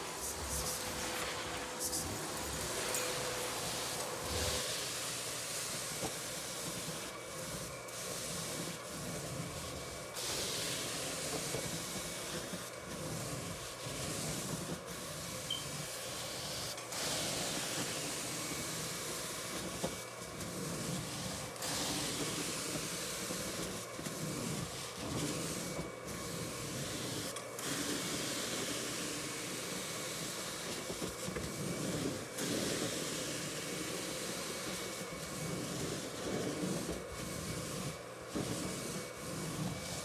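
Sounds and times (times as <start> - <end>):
carpet extractor spray and suction hiss: 0.0 - 40.0.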